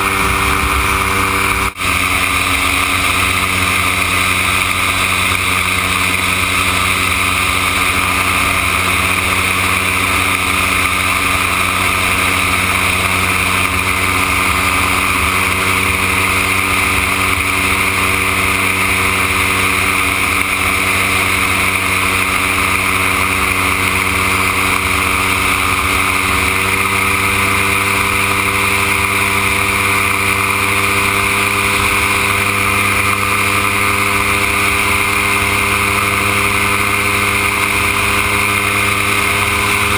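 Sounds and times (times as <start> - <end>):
aircraft engine and propeller: 0.0 - 39.9
wind rush over microphone: 0.0 - 39.9.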